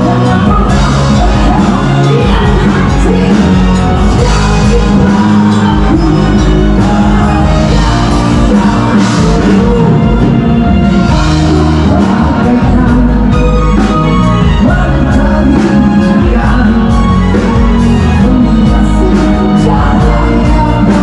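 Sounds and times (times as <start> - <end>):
loud rock music with singer: 0.0 - 21.0.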